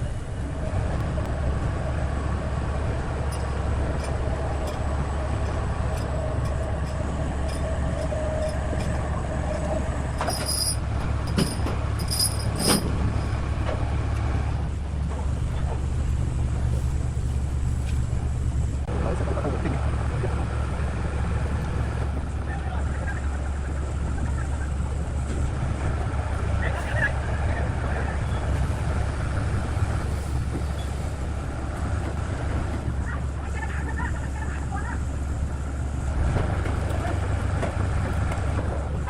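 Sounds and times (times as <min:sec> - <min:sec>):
heavy machine engine rumbling: 0:00.0 - 0:39.0.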